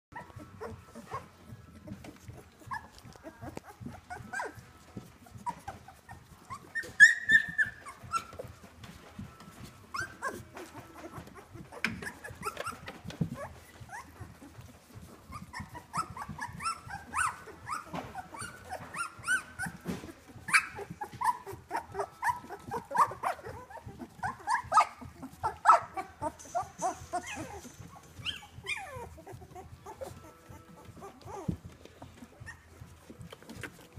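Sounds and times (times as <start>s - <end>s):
puppies squeaking and whimpering: 0.1s - 33.9s.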